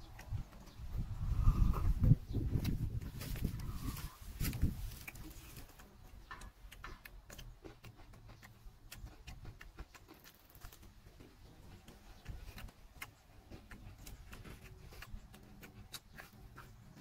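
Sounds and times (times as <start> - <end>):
crunching cucumber: 2.5 - 17.0.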